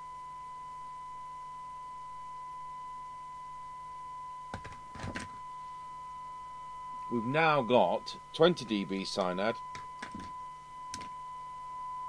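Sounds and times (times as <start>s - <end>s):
faint low hum: 0.0s - 12.0s
steady test tone: 0.0s - 12.0s.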